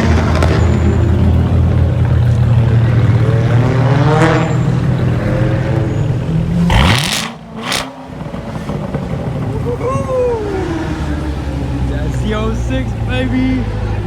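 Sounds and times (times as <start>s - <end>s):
car exhaust rumbling and revving: 0.0s - 14.0s.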